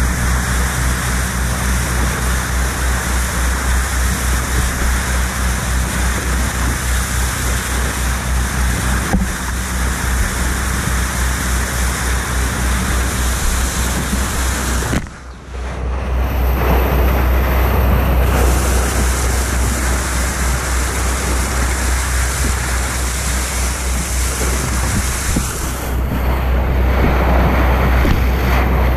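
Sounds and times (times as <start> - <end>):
low drone: 0.0 - 28.9
water rushing and splashing: 0.0 - 28.9.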